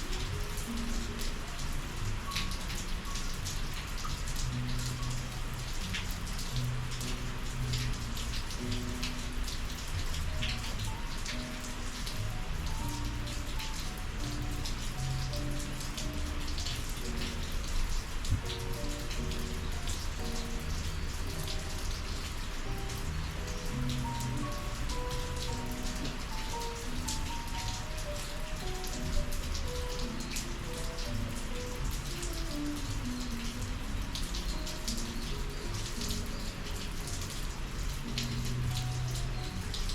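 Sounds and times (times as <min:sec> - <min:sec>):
rain falling: 0:00.0 - 0:39.9
soft slow melody: 0:00.0 - 0:39.9.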